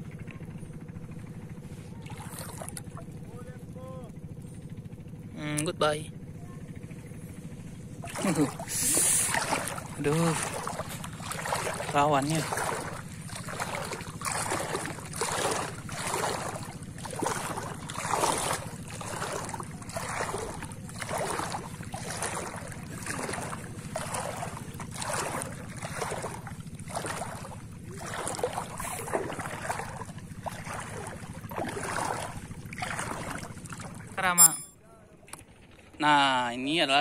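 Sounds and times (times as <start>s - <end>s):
steady low hum: 0.0s - 35.3s
footsteps wading in water: 0.1s - 4.6s, 7.0s - 34.6s.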